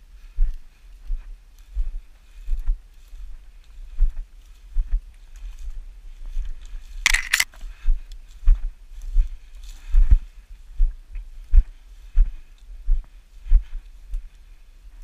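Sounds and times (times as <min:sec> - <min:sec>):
footsteps in dry grass: 0:00.0 - 0:15.0.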